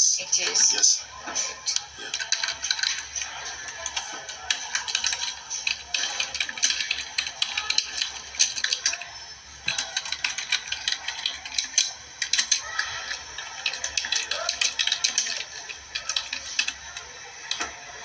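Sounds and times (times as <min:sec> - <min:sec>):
typing on computer keyboard: 0:02.0 - 0:17.7.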